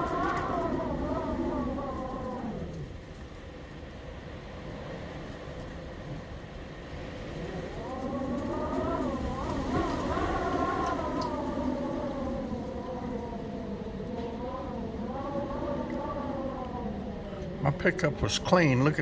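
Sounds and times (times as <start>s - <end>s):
low wind rumble: 0.0s - 19.0s
wind whistling around a door: 0.0s - 19.0s.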